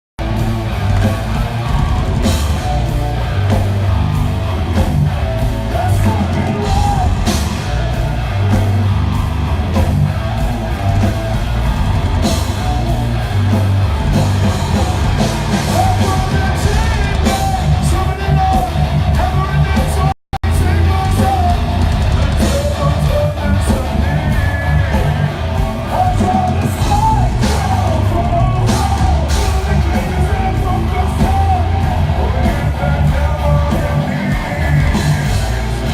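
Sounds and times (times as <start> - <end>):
distorted guitars: 0.2 - 35.9
drums: 0.2 - 35.9
vocals sung and shouted: 0.2 - 35.9.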